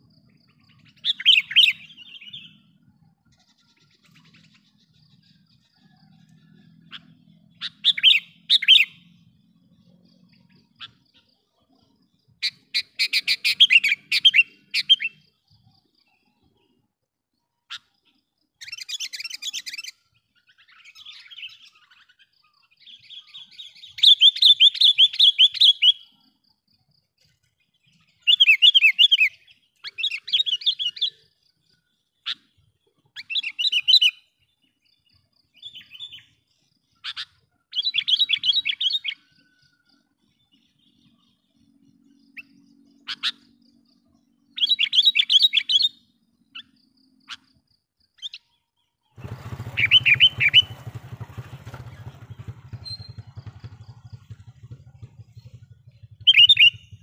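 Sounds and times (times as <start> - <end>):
bulbul chattering trilled calls: 0.0 - 16.8, 17.6 - 26.5, 27.6 - 57.0.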